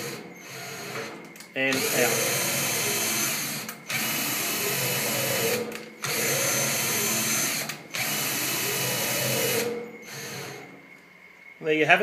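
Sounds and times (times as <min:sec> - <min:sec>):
cordless drill motor whirring: 0:00.0 - 0:10.7.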